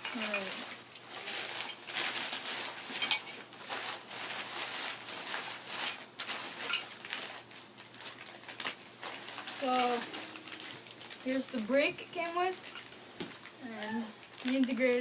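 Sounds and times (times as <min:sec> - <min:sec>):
wrapping rustling: 0:00.0 - 0:15.0.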